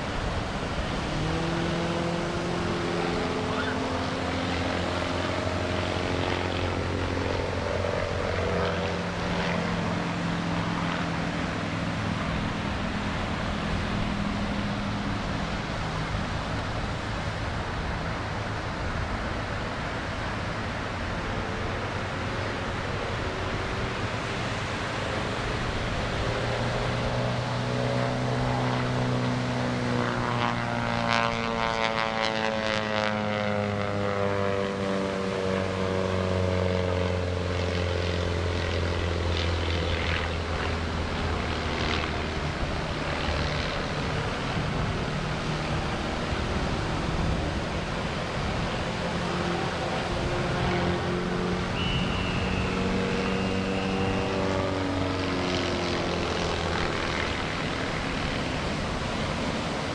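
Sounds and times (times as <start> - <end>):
biplane engine and propeller: 0.0 - 59.9.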